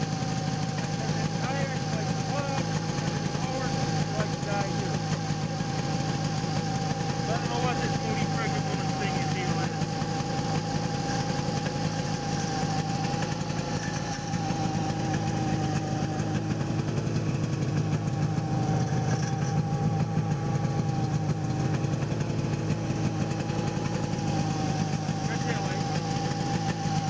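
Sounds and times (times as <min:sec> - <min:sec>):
snowmobile engine idling: 0:00.0 - 0:27.0.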